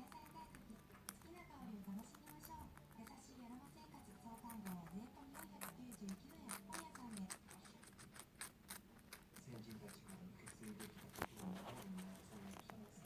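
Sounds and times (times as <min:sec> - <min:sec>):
guinea pig chewing vegetables: 0:00.0 - 0:13.0.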